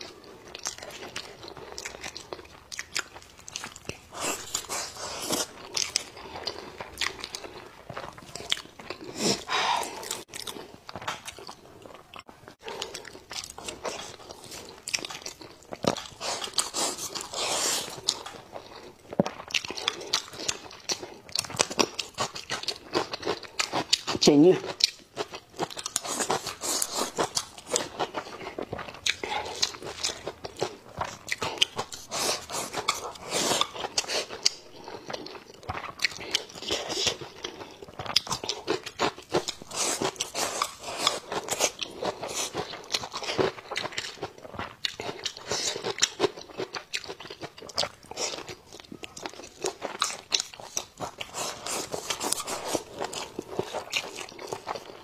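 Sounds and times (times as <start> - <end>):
person chewing and crunching: 0.0 - 55.0.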